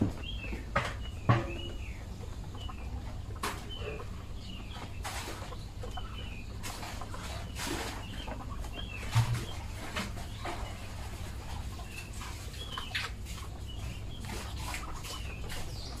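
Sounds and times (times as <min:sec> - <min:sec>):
ducks pecking grain from plastic tray: 0:00.0 - 0:16.0
high chirping calls: 0:00.2 - 0:16.0.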